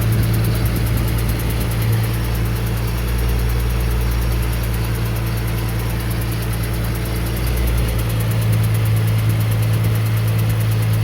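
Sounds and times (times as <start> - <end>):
car engine idling: 0.0 - 11.0
fast even engine ticking: 0.0 - 11.0.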